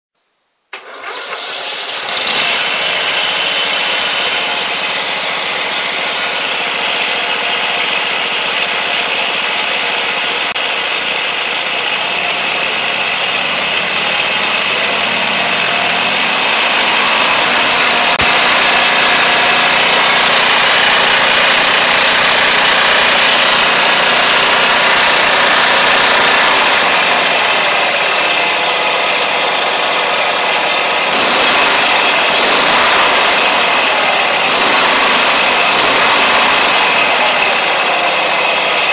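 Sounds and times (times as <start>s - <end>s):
lawn mower engine at high revs: 0.7s - 38.9s.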